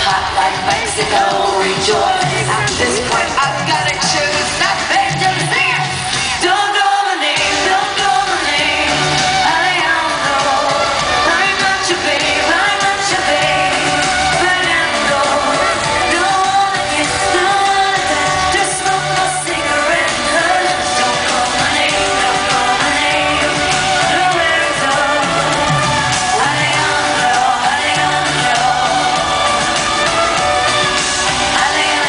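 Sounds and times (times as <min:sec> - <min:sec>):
live pop band playing: 0:00.0 - 0:32.0.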